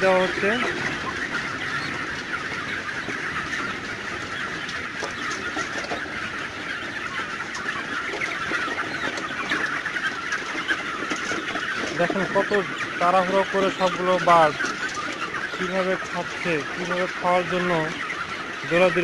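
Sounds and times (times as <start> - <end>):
chickens cheeping and clucking: 0.0 - 19.0.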